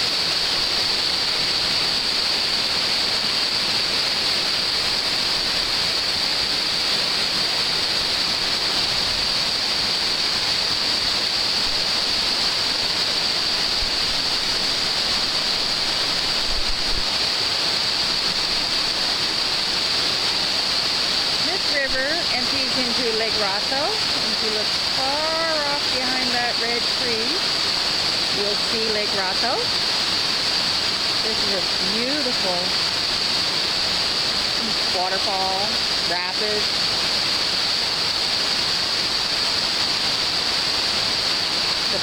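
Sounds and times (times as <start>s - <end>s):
river rapids and waterfall roar: 0.0s - 42.0s.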